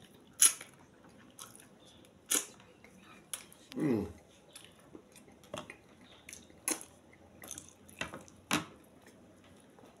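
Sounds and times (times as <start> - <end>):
wet smacking eating sounds: 0.0 - 10.0.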